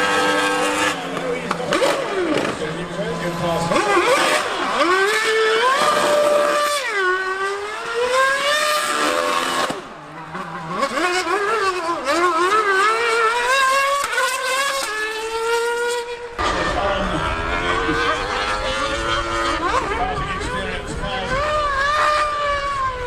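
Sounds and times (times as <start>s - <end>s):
racing engine revving: 0.0s - 23.0s.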